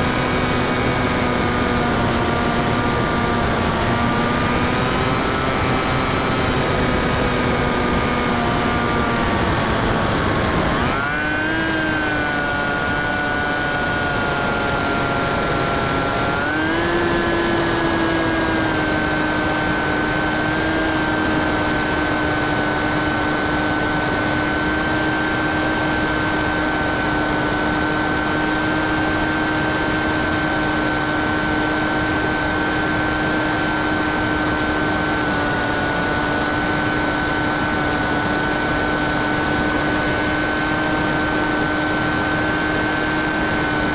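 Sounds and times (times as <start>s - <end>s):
electric motor and propeller whining: 0.0s - 43.9s.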